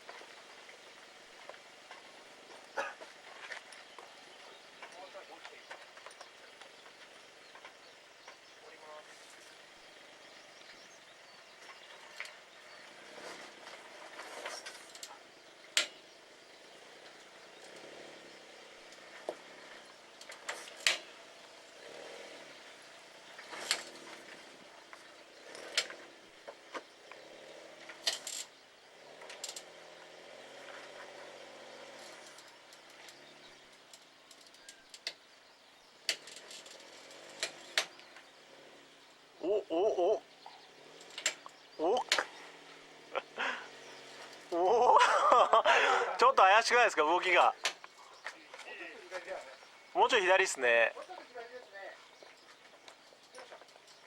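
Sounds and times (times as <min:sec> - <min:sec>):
engine running slowly: 0:00.0 - 0:54.0.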